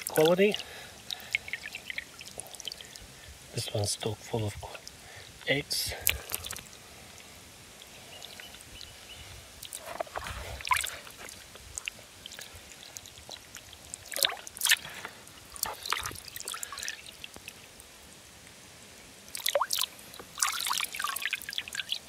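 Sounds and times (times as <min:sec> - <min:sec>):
water dripping and splashing: 0:00.0 - 0:18.6, 0:19.2 - 0:22.0.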